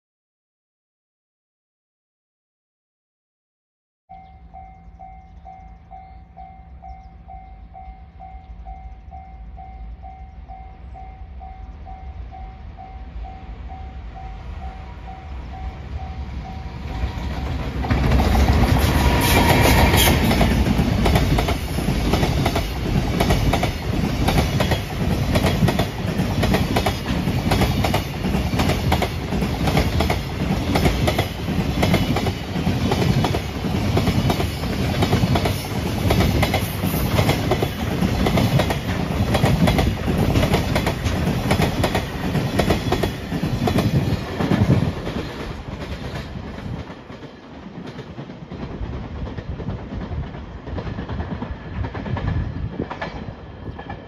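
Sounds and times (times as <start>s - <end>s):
freight train passing: 4.1s - 54.0s.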